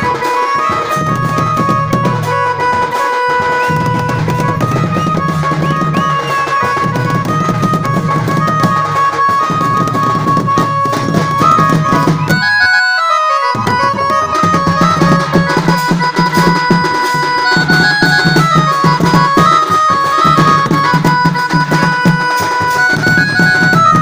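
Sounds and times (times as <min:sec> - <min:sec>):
band music with drums: 0:00.0 - 0:24.0
droning melody line: 0:00.0 - 0:24.0.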